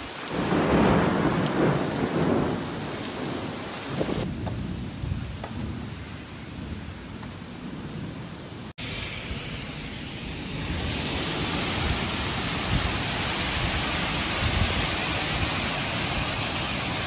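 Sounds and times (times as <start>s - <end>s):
torrential rain pouring: 0.0s - 8.8s, 10.6s - 17.0s
low thunder rumbles: 0.1s - 17.0s.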